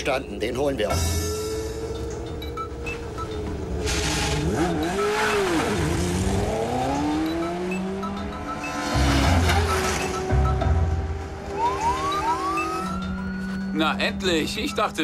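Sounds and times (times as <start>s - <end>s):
car engine accelerating: 1.5s - 15.0s.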